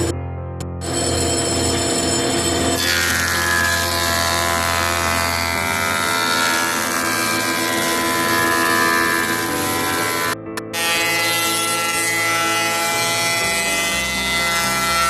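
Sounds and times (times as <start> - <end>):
wood planer motor whine: 0.8 - 15.0.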